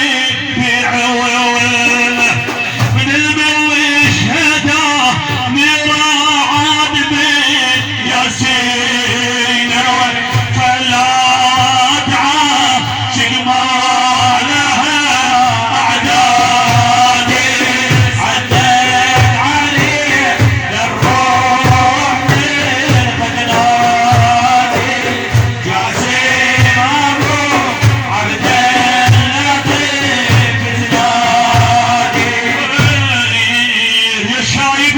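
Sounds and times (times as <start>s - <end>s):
steady drum beat: 0.0s - 34.5s.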